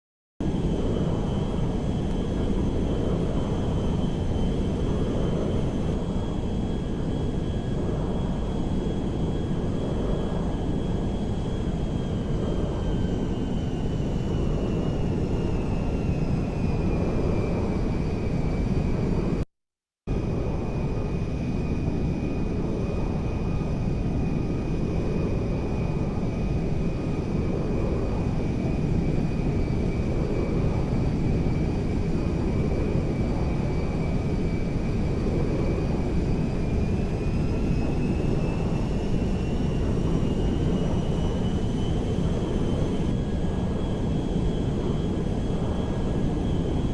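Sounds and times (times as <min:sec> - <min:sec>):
airplane rumble with high whine: 0:00.4 - 0:19.4, 0:20.1 - 0:46.9.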